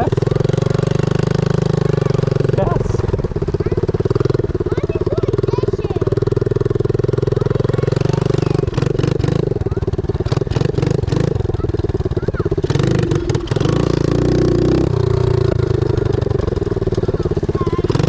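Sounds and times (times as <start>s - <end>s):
pit bike engine running: 0.0s - 18.0s.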